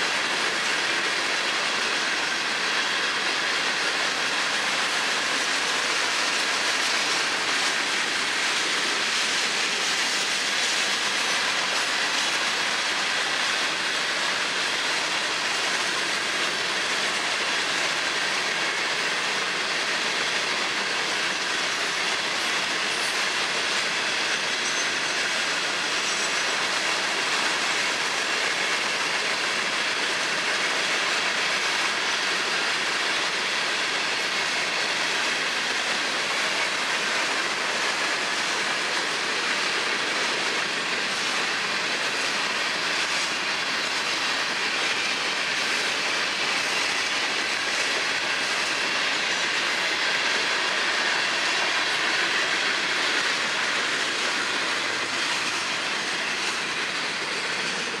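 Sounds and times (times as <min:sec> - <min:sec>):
freight train wheels clacking on rails: 0:00.0 - 0:58.0.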